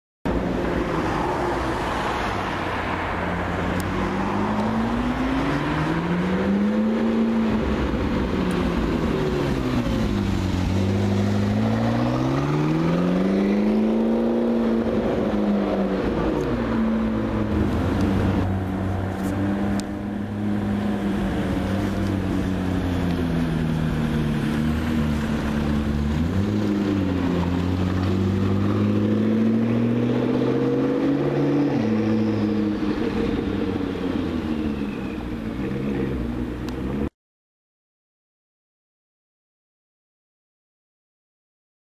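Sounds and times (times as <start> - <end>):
car engine revving: 0.3 - 34.9.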